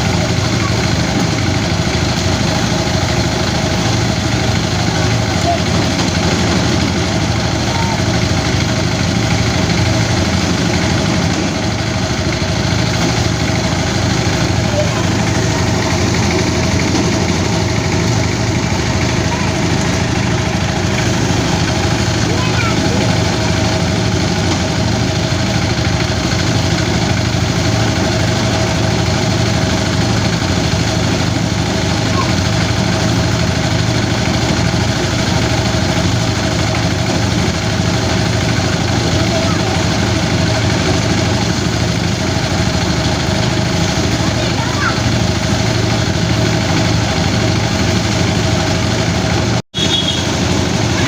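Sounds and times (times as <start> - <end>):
threshing machine engine drone: 0.0 - 51.0.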